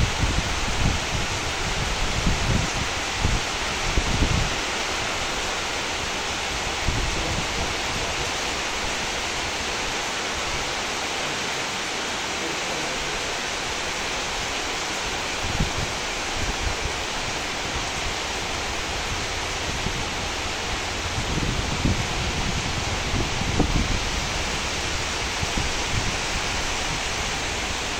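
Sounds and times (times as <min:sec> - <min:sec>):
wind buffeting microphone: 0:00.0 - 0:09.7, 0:15.1 - 0:27.9
rain falling on leaves: 0:00.0 - 0:27.9.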